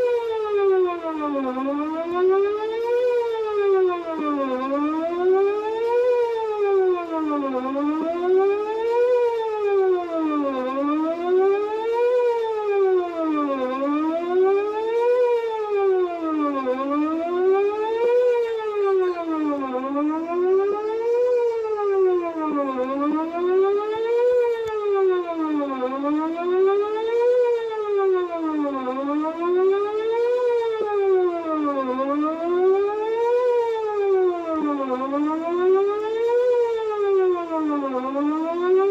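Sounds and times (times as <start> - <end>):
warning siren rising and falling: 0.0 - 38.9.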